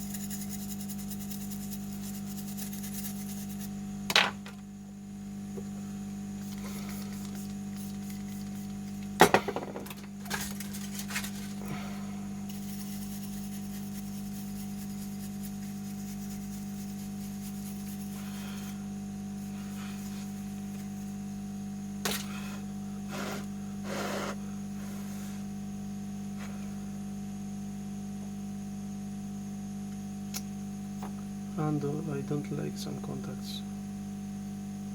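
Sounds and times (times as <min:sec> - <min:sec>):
electrical hum: 0:00.0 - 0:34.9.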